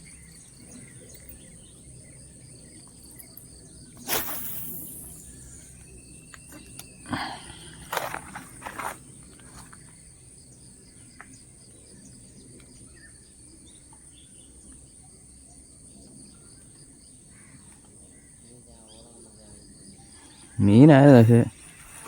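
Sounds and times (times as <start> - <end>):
faint bird chirps: 0.0 - 8.0, 9.4 - 22.0
crickets droning: 0.0 - 22.0.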